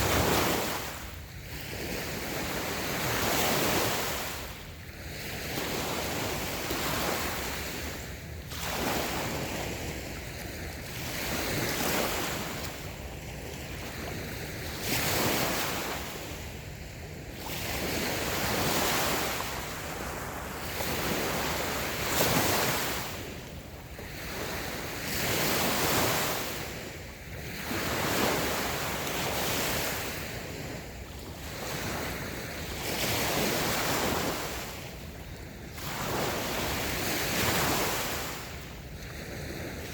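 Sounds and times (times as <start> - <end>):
small waves on sandy beach: 0.0 - 39.9
wind on microphone: 0.0 - 39.9.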